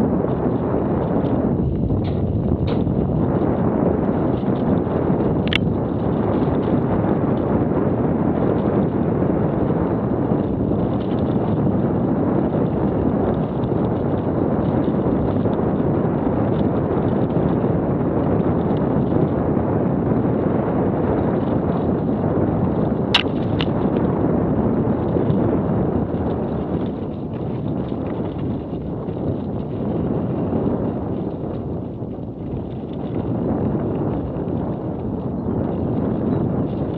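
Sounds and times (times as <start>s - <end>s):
bike rattling: 0.0s - 36.9s
bike tyres rumbling on dirt: 0.0s - 36.9s
wind buffeting microphone: 0.0s - 36.9s.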